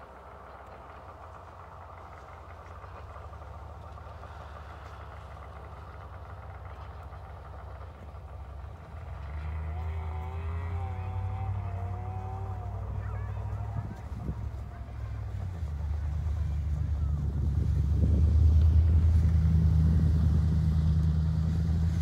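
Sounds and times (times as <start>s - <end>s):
snowmobile engines idling: 0.0s - 22.0s
engine revving: 0.6s - 22.0s.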